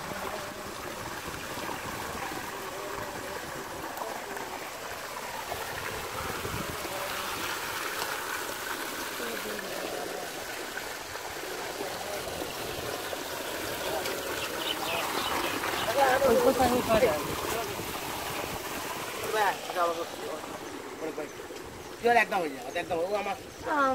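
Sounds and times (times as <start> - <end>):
water trickling through ditch: 0.0 - 23.9.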